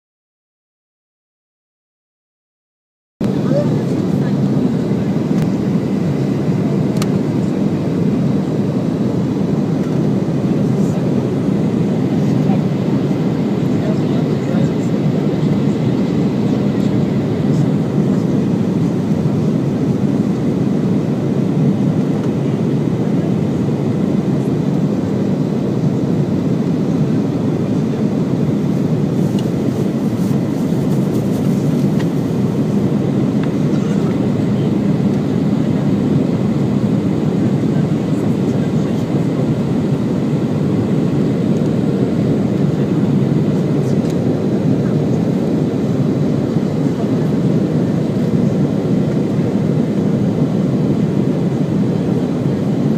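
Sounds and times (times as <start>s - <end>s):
jet engines droning: 3.2s - 52.9s.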